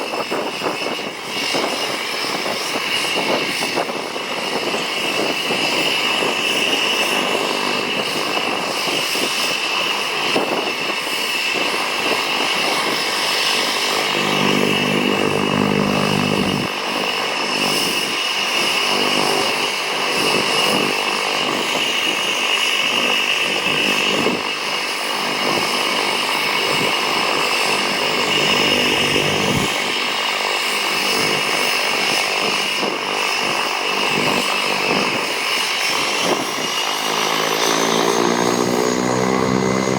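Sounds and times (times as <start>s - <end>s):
propeller noise: 0.0s - 39.9s
turboprop engine whine: 0.0s - 39.9s.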